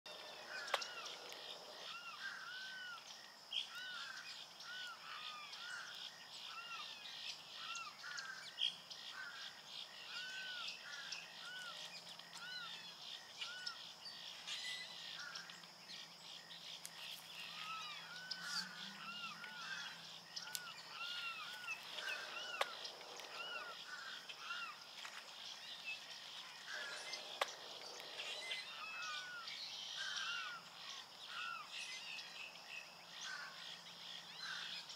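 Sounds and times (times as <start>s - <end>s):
wild birds chirping: 0.0s - 34.9s.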